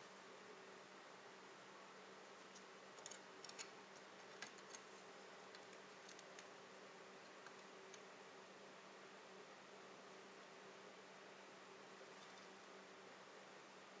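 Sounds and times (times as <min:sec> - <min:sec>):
faint electrical hum and hiss: 0:00.0 - 0:14.0.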